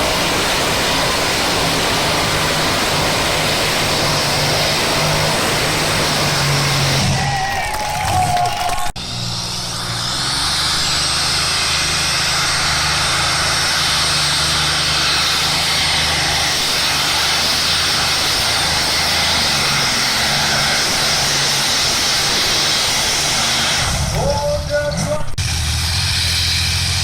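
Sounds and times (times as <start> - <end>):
engine running flat out under load: 0.0 - 27.0.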